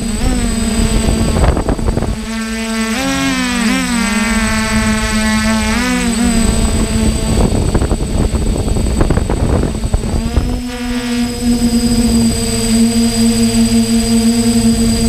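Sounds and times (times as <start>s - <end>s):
drone motors whining: 0.0s - 15.0s
wind noise on microphone: 0.0s - 15.0s.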